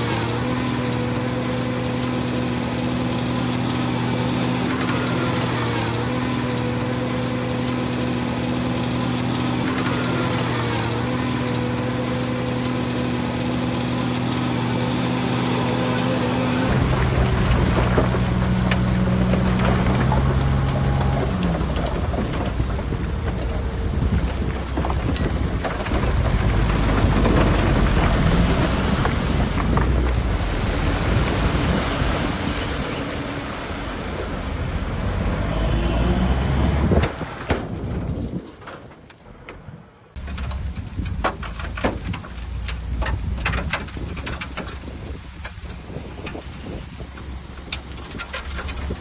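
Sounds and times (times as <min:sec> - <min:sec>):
diesel engine hum: 0:00.0 - 0:49.0
heavy machinery rumble: 0:00.0 - 0:49.0.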